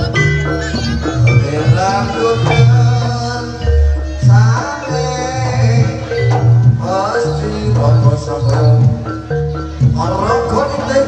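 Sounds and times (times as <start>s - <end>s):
sliding melody line: 0.0s - 11.0s
tuned percussion ensemble music: 0.0s - 11.0s.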